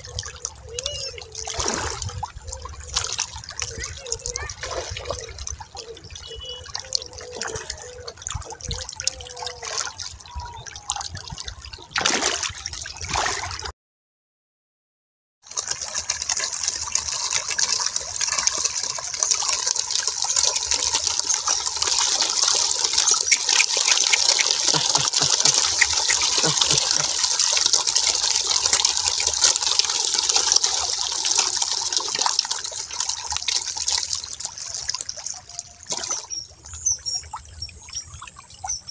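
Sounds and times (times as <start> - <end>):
water trickling and splashing: 0.0 - 13.7, 15.4 - 38.9.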